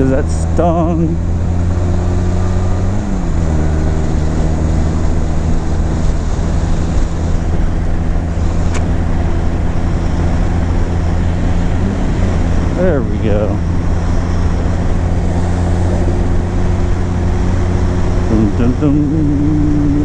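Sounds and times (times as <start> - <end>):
motorcycle engine accelerating: 0.0 - 20.0
wind rush on microphone: 1.2 - 20.0.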